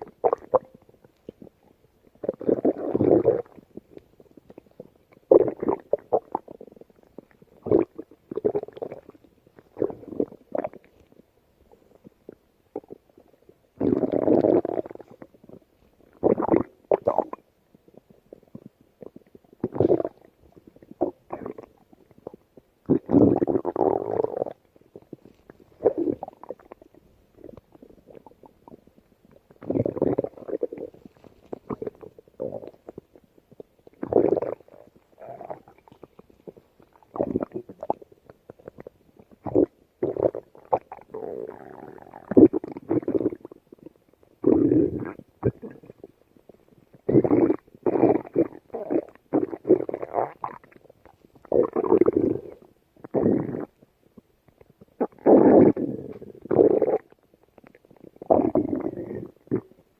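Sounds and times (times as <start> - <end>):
stomach growling: 0.0 - 59.9.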